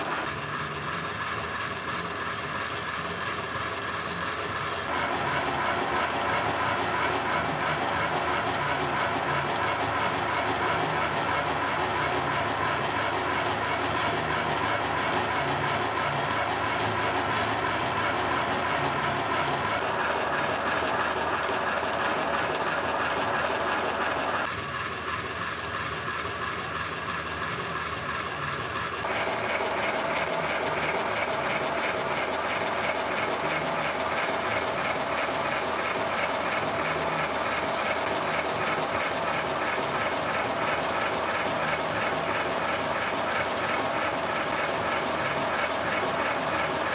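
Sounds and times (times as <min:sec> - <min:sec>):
high steady whine: 0:00.0 - 0:46.9
milling machine running: 0:00.0 - 0:46.9.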